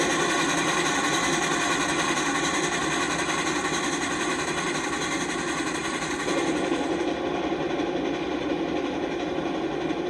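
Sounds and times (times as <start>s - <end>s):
train wheels running over rails: 0.0s - 10.0s.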